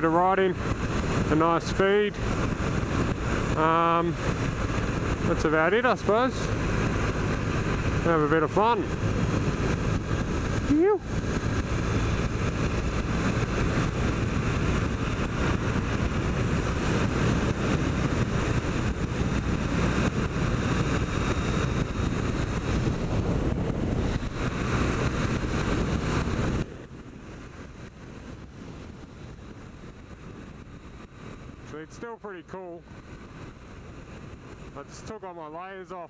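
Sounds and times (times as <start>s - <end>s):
motorcycle engine running: 0.0s - 31.8s
wind noise: 0.0s - 35.3s.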